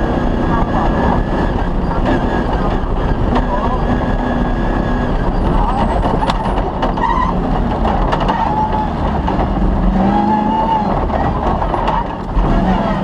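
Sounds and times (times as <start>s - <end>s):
car rumbling and rattling: 0.0s - 13.0s
rally car engine running hard: 0.0s - 13.0s.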